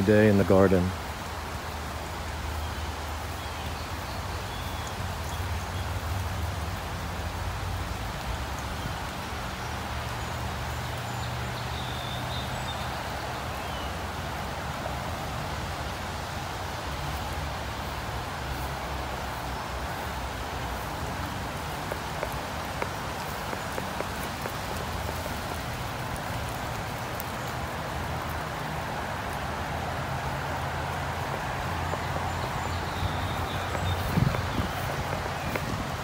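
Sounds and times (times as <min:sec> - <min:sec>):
light rain on foliage: 0:00.0 - 0:36.0.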